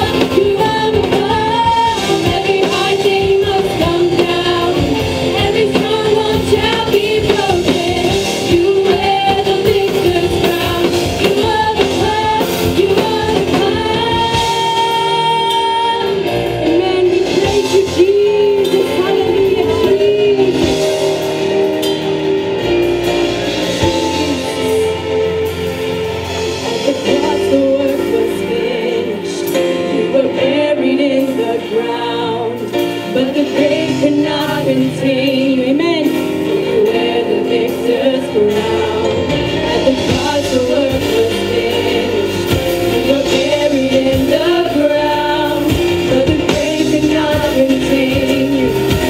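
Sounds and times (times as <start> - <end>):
women singing: 0.0 - 21.7, 23.4 - 25.5, 26.3 - 49.0
band bass and percussion: 0.0 - 49.0.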